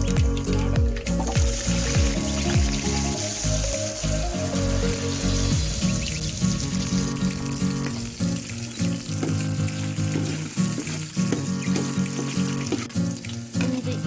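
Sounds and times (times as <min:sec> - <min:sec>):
background music with bass line: 0:00.0 - 0:12.9
food sizzling in oil: 0:00.0 - 0:14.0.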